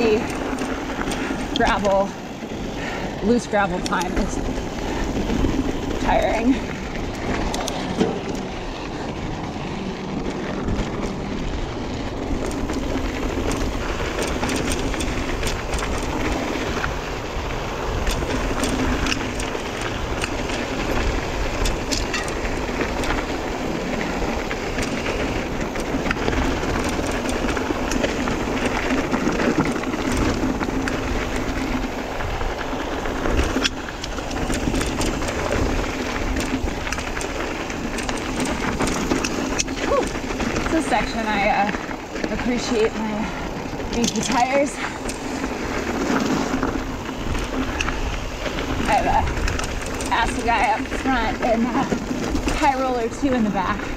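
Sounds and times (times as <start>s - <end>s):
bike rattling: 0.0s - 53.9s
tyres crunching on gravel: 0.0s - 53.9s.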